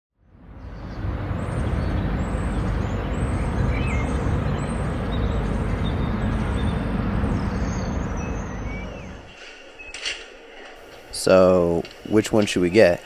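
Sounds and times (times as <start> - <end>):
outdoor rumble: 0.2 - 12.7.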